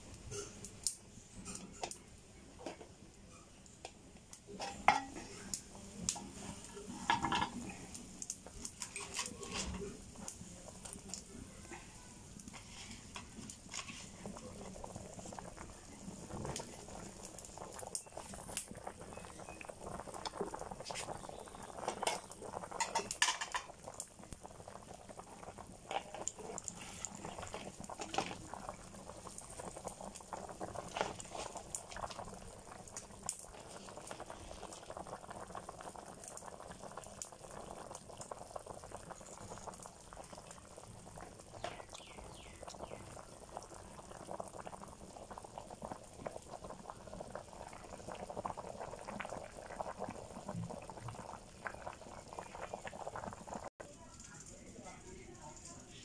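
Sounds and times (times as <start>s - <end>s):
curry boiling and bubbling: 0.0s - 56.0s.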